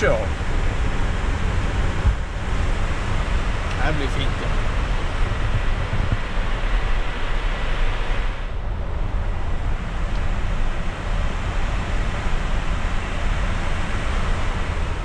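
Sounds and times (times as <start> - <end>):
deep rumble: 0.0 - 15.0
rush of air in cockpit: 0.0 - 15.0.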